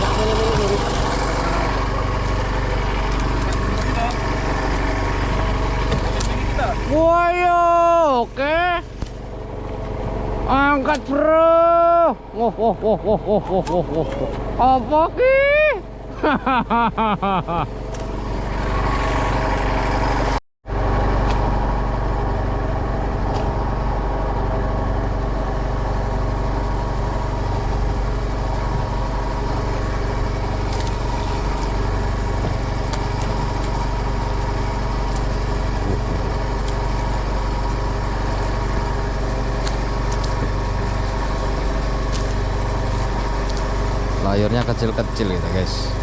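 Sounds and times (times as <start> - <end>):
boat engine idling: 0.0 - 46.0.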